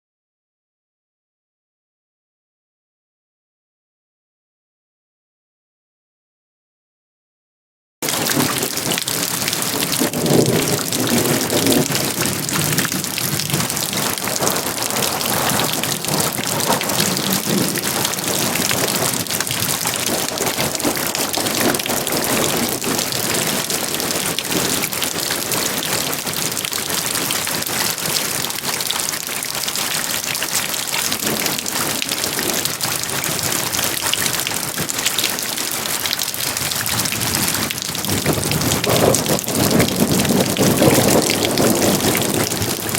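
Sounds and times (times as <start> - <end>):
heavy rain falling: 8.0 - 42.9.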